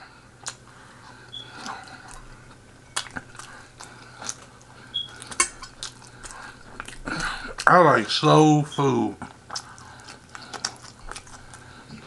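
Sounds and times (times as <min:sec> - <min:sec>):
person chewing meat: 0:00.1 - 0:07.8, 0:09.2 - 0:12.0.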